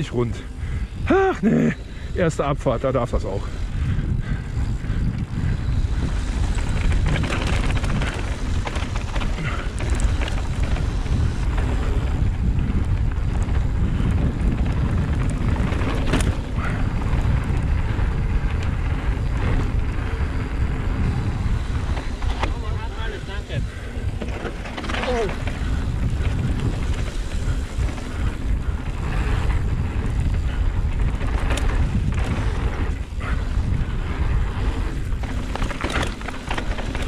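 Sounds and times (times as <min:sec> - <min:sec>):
bike clicking and rattling: 0:00.0 - 0:37.0
wind rushing over microphone: 0:00.0 - 0:37.0.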